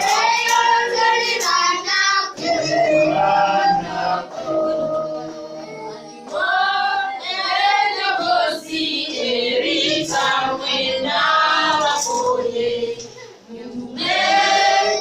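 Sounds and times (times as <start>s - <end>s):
worship singing in high voices: 0.0s - 15.0s.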